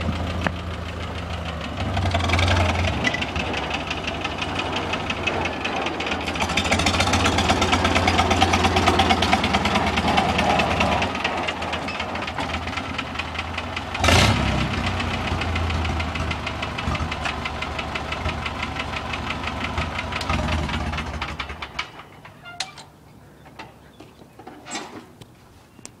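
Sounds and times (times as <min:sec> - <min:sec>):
tractor engine running: 0:00.0 - 0:25.4.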